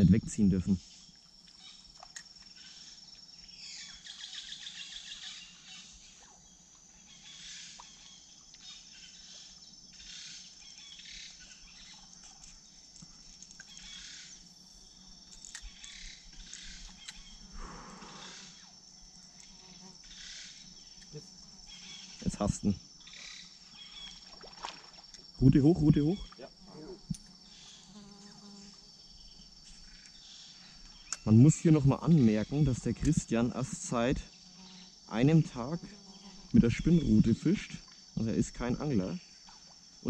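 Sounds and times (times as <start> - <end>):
insects buzzing high-pitched: 0.0 - 40.0
insects chirring: 0.0 - 40.0.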